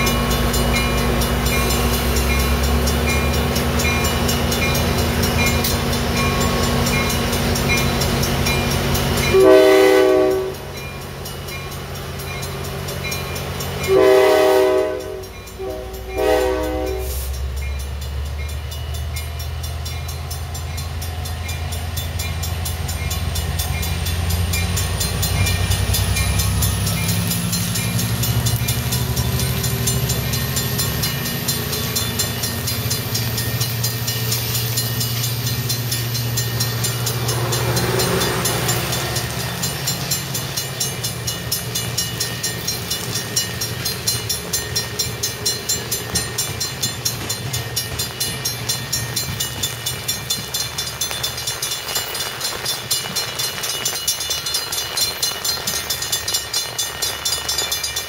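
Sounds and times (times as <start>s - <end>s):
passenger train passing: 0.0s - 58.0s.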